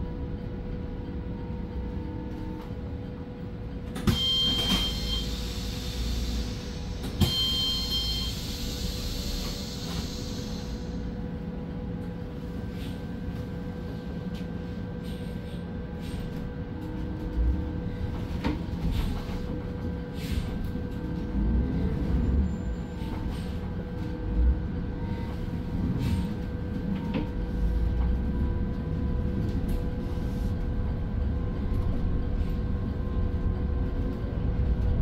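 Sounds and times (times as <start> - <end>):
bus cabin rumble: 0.0 - 35.0.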